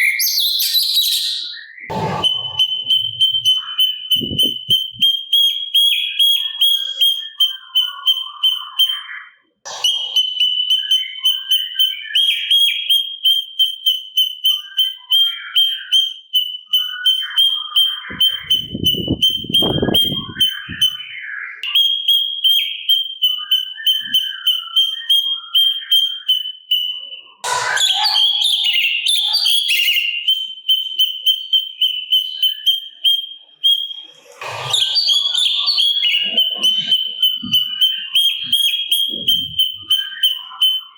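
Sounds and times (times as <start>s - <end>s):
rough bird calls: 0.0s - 12.9s, 14.5s - 21.6s, 22.6s - 40.9s
bird chirps and whistles: 0.0s - 40.9s
bird singing rapid high notes: 0.0s - 40.9s.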